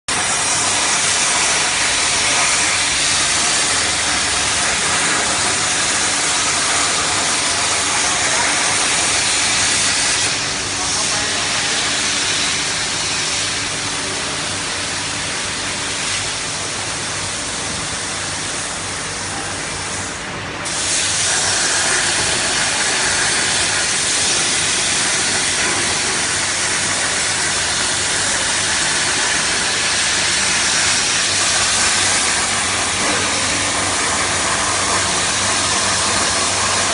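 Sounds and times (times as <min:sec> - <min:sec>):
cutting torch hissing: 0:00.1 - 0:36.9.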